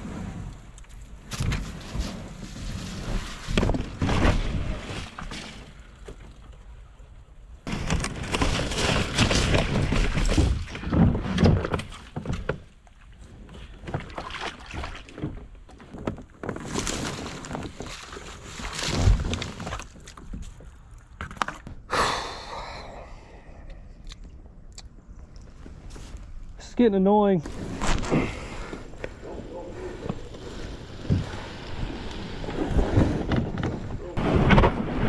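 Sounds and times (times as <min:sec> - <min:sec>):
kayak knocking and scraping: 0:00.0 - 0:06.7, 0:07.7 - 0:21.8, 0:27.4 - 0:35.0.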